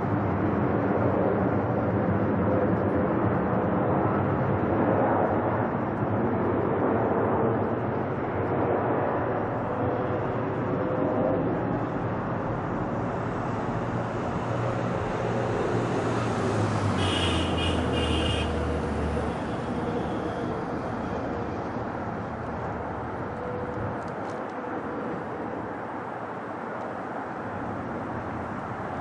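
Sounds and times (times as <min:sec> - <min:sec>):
road traffic: 0:00.0 - 0:29.0
jet engine roar: 0:04.8 - 0:28.3.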